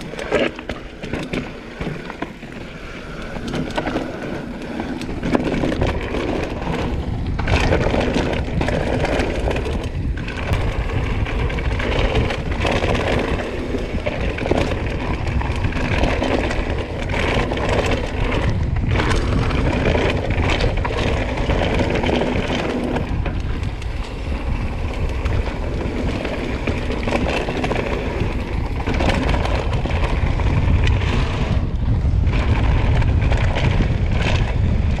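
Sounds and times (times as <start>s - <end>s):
bike knocking and rattling: 0.0s - 35.0s
bike tyres rolling on dirt: 0.0s - 35.0s
wind on microphone: 1.4s - 35.0s.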